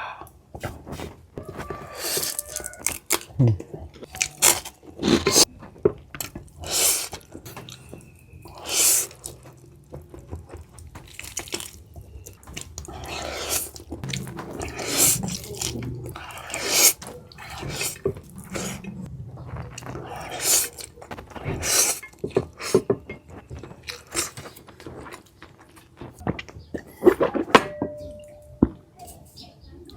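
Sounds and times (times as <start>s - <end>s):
wet chewing and smacking: 0.3s - 27.5s
slurping: 1.7s - 5.5s, 6.3s - 27.5s.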